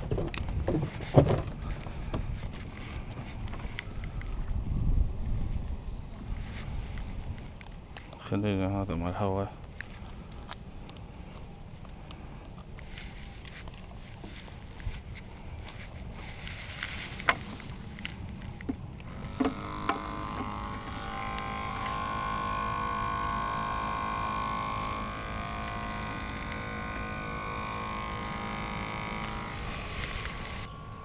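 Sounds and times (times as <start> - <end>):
air pump humming: 0.0 - 31.0.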